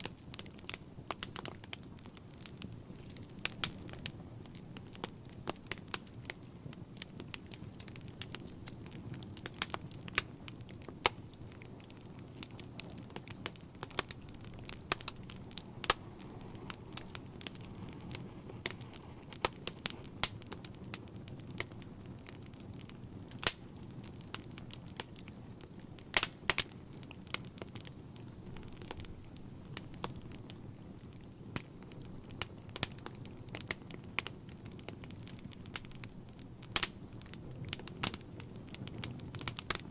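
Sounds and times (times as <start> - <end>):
fire crackling and popping: 0.0 - 39.9
low rush of flame: 0.0 - 39.9.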